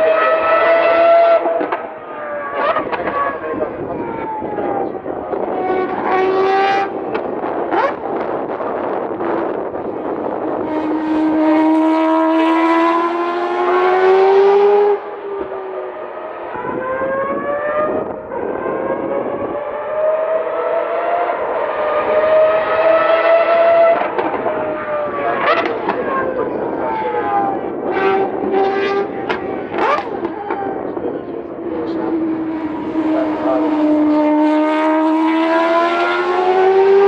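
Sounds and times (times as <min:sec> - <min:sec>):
rotary engine accelerating hard: 0:00.0 - 0:37.0.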